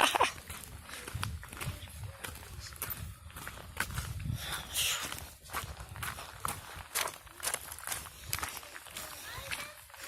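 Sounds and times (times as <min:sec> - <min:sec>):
footsteps on trail: 0:00.0 - 0:10.0.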